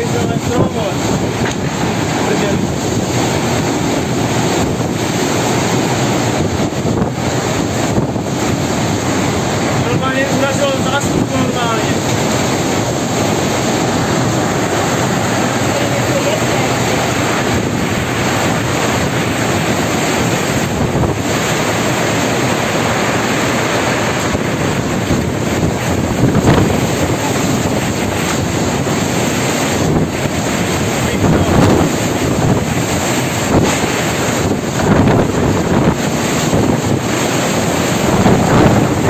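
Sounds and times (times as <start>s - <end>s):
tornado winds rushing: 0.0s - 39.0s.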